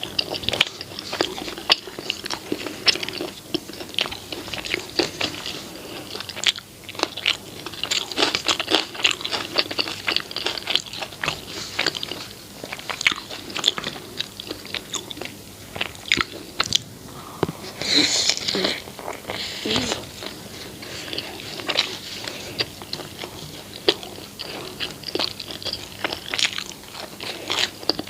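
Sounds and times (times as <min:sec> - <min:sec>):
crunchy chewing and biting: 0:00.0 - 0:16.9, 0:17.5 - 0:28.0.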